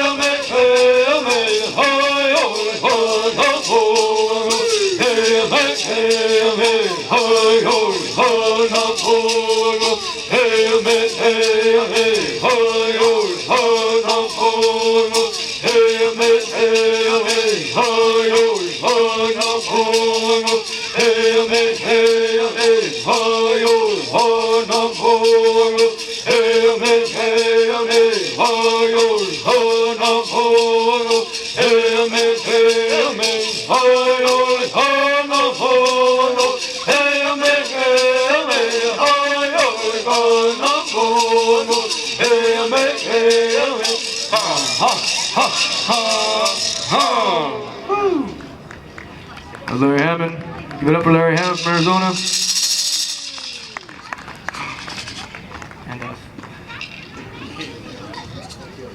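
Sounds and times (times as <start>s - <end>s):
gourd rattles shaking: 0.0s - 47.0s, 51.6s - 55.8s
men singing: 0.0s - 48.4s.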